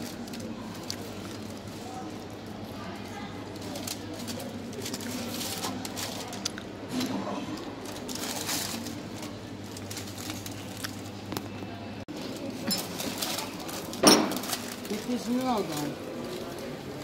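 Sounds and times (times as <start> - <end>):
paper wrapper rustling: 0.0 - 11.6, 12.2 - 17.0
murmur of voices: 0.0 - 17.0.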